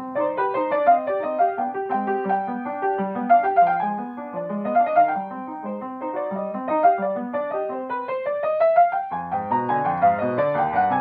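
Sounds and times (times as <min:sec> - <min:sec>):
classical piano passage: 0:00.0 - 0:11.0.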